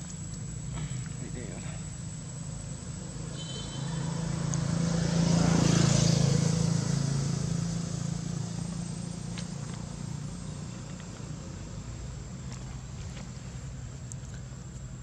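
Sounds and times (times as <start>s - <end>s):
vehicle engine hum passing: 0.0s - 15.0s.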